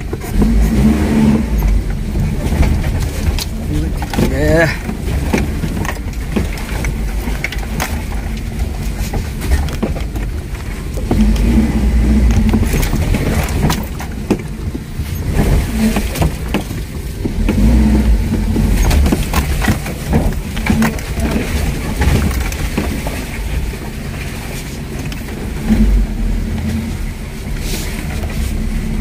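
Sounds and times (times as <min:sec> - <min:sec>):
knocks and rattles over rough ground: 0:00.0 - 0:29.0
off-road vehicle engine running: 0:00.0 - 0:29.0.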